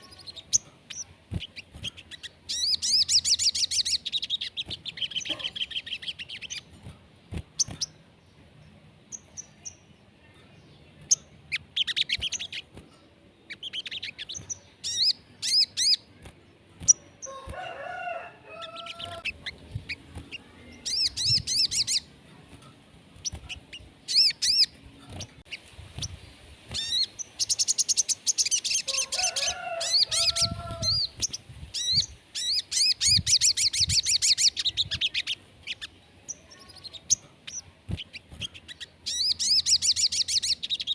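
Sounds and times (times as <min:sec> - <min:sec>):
bird high chirping trills: 0:00.0 - 0:40.9.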